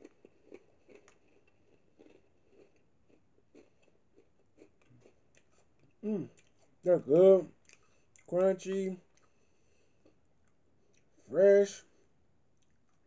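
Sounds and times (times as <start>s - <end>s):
chewing crunchy cracker: 0.0s - 8.3s, 9.0s - 11.3s, 12.5s - 13.0s.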